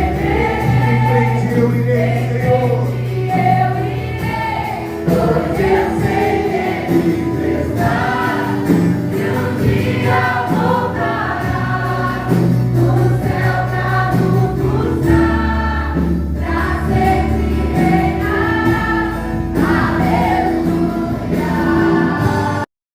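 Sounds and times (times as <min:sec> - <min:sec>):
group singing praise song: 0:00.0 - 0:22.7
instrumental backing with bass: 0:00.0 - 0:22.7.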